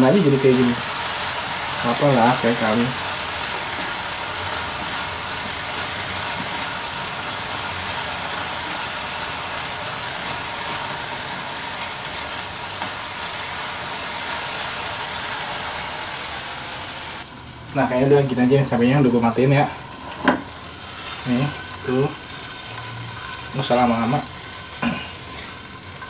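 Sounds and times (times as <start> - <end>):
paste sizzling in oil in a pan: 0.0 - 18.4, 19.0 - 26.0.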